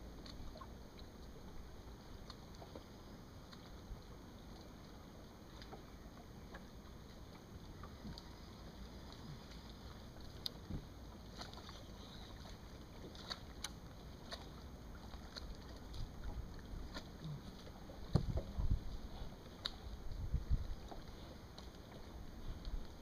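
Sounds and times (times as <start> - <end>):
water lapping at boat hull: 0.0 - 23.0.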